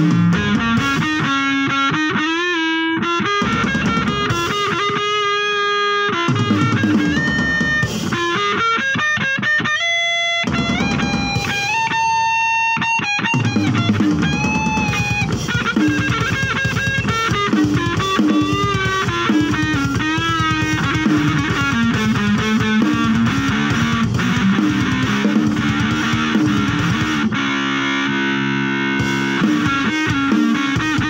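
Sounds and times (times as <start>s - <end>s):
electric guitar with string bends: 0.0s - 31.0s.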